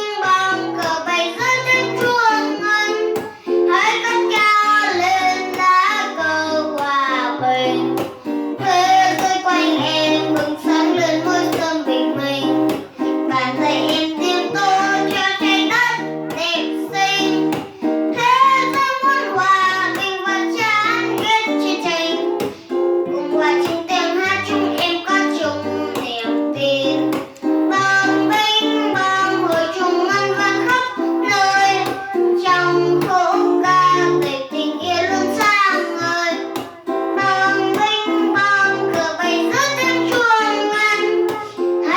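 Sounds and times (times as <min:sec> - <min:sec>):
child singing with vibrato: 0:00.0 - 0:41.9
plucked guitar: 0:00.0 - 0:41.9.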